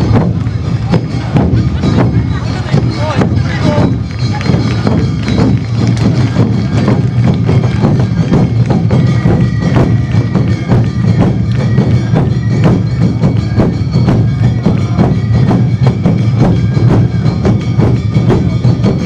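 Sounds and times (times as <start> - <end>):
drums beating: 0.0 - 19.0.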